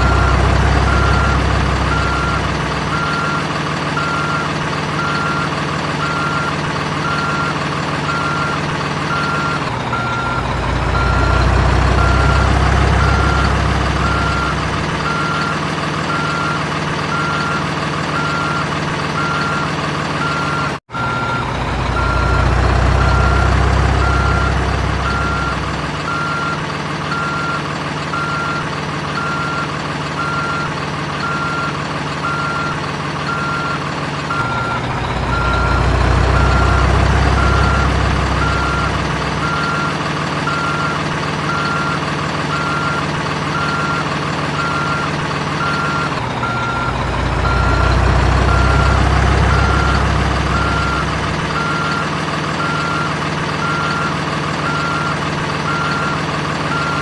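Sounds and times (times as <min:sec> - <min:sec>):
reversing beep: 0:00.0 - 0:57.0
simulated engine hum: 0:00.0 - 0:57.0.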